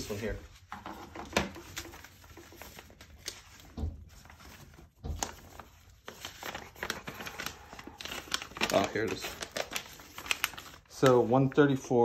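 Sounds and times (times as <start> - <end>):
paper pages rustling: 0.0 - 11.9.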